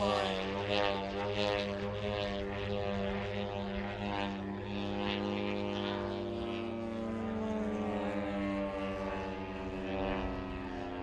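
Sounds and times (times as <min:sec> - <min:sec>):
model airplane buzzing drone: 0:00.0 - 0:11.0.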